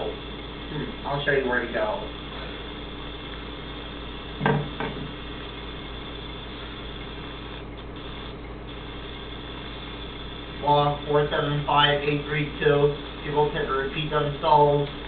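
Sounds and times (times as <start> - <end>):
video recording hum and hiss: 0.0 - 15.0.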